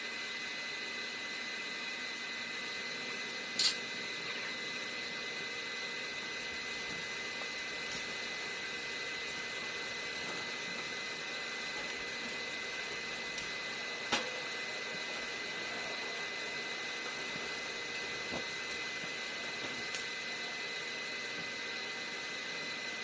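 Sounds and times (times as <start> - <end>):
machine whine: 0.0 - 23.0.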